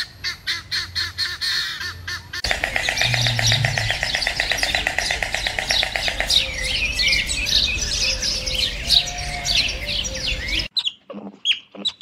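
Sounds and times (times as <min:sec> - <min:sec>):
songbird trill: 0:00.2 - 0:12.0.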